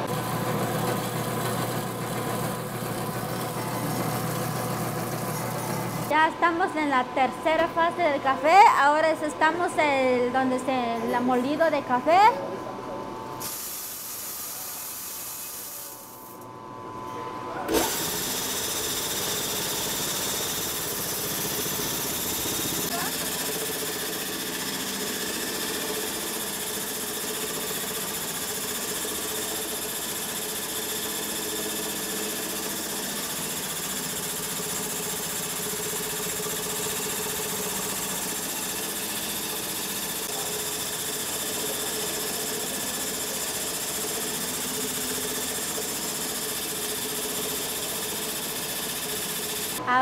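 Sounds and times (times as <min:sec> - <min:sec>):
coffee grinder whirring: 0:00.0 - 0:06.1, 0:13.4 - 0:16.5, 0:17.7 - 0:49.8.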